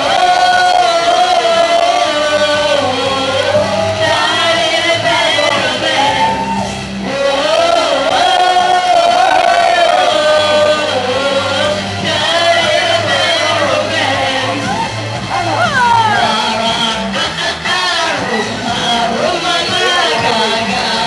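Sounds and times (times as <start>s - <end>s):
karaoke backing track: 0.0s - 21.0s.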